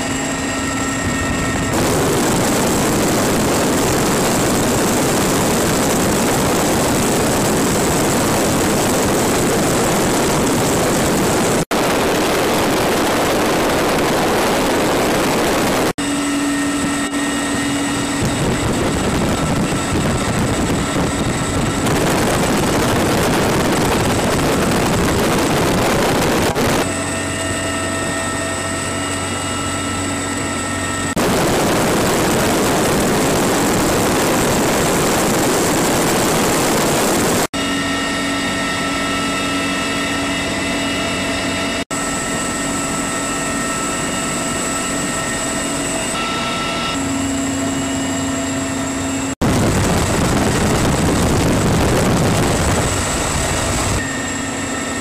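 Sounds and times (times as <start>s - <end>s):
helicopter rushing noise: 0.0s - 55.0s
helicopter turbine whine: 0.0s - 55.0s.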